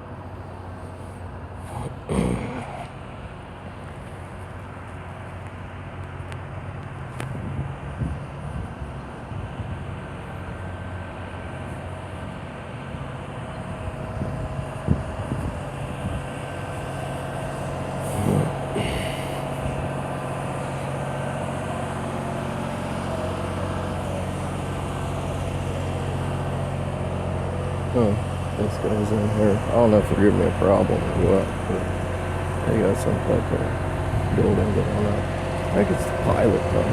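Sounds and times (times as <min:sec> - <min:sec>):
vehicle engine idling: 0:00.0 - 0:36.9.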